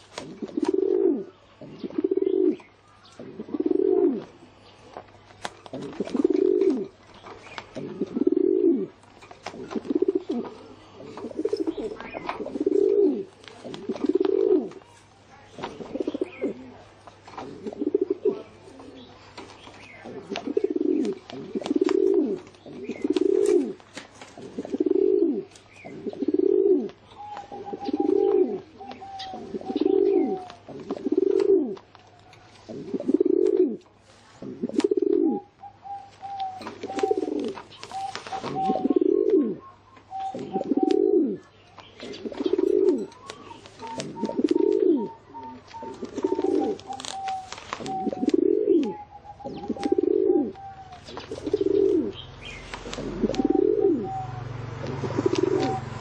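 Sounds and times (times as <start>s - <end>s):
pigeon cooing: 0.0s - 4.5s, 5.6s - 7.0s, 7.6s - 14.9s, 15.6s - 19.2s, 19.9s - 23.8s, 24.4s - 56.0s.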